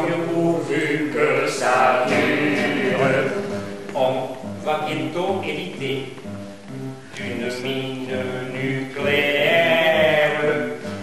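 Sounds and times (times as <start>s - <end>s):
man singing: 0.0s - 6.1s, 7.1s - 11.0s
acoustic guitar: 0.0s - 11.0s.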